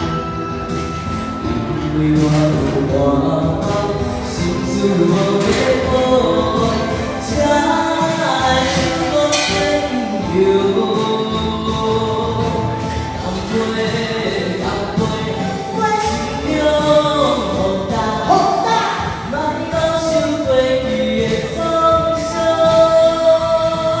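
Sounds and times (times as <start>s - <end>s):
backing music: 0.0s - 24.0s
person singing slow song: 1.4s - 24.0s.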